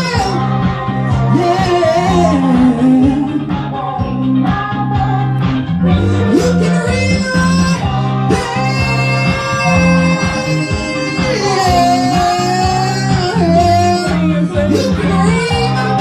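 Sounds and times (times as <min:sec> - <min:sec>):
song with sliding melody: 0:00.0 - 0:16.0
steady bass beat: 0:00.0 - 0:16.0.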